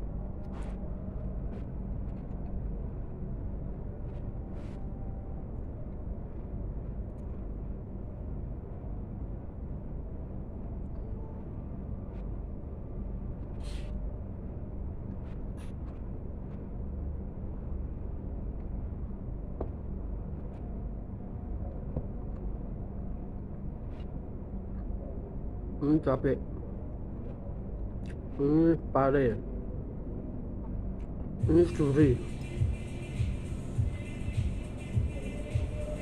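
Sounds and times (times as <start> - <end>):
low background rumble: 0.0 - 36.0.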